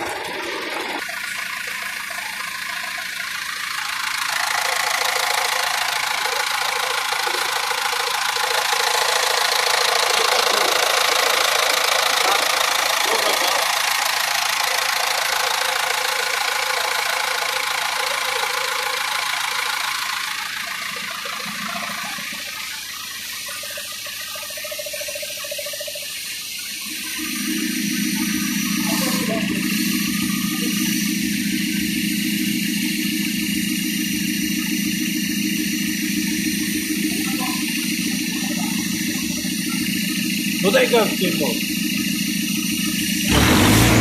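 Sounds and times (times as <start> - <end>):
diesel engine running: 0.0 - 25.5, 26.8 - 44.0.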